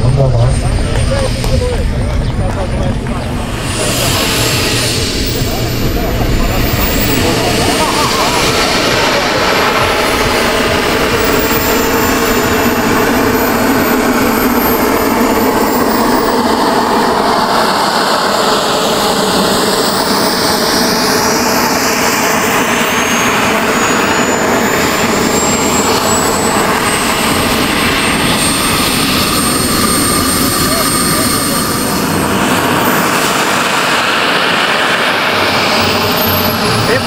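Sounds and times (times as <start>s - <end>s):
model jet turbine whine: 0.0s - 37.0s.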